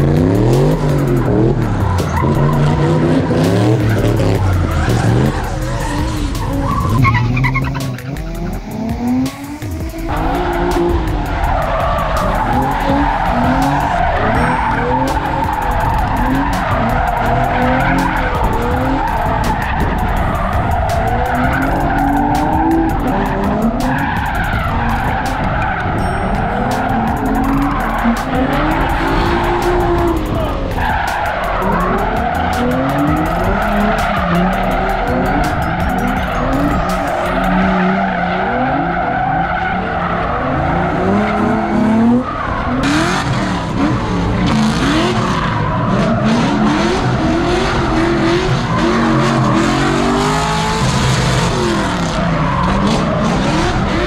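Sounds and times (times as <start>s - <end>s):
car engines revving: 0.0s - 54.0s
tyre screech: 0.0s - 54.0s.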